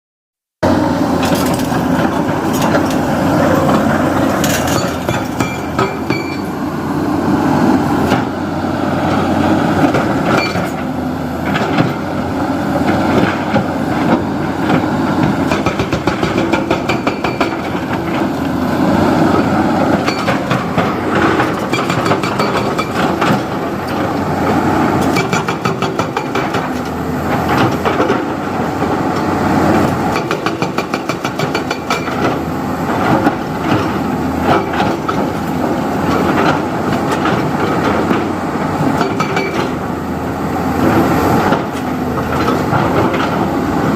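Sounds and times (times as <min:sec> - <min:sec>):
diesel engine under load: 0:00.6 - 0:43.9.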